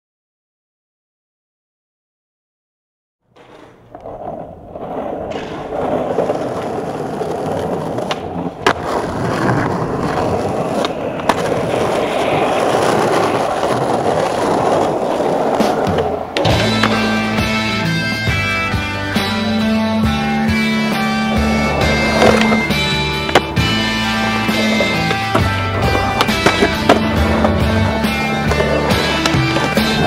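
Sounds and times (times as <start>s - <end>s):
skateboard tail popping and landing: 3.3s - 30.0s
skateboard wheels rolling on concrete: 3.3s - 30.0s.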